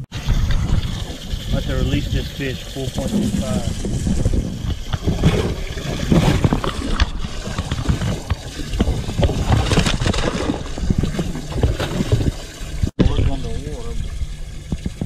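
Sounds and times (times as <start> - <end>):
water sloshing and splashing: 0.0 - 15.0
wind on microphone: 0.0 - 15.0.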